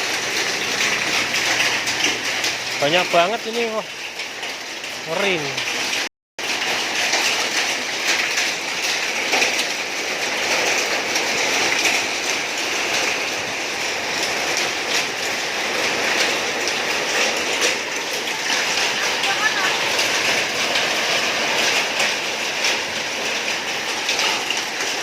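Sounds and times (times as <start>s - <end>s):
hailstones clattering on hard surfaces: 0.0s - 25.0s
rain: 0.0s - 25.0s.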